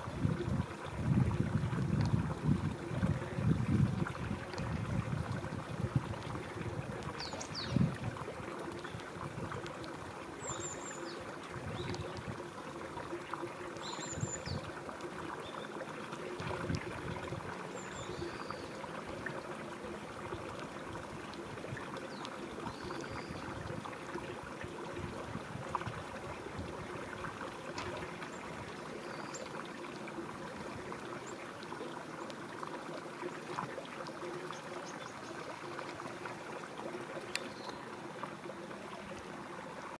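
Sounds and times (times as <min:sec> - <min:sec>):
river water running: 0:00.0 - 0:40.0.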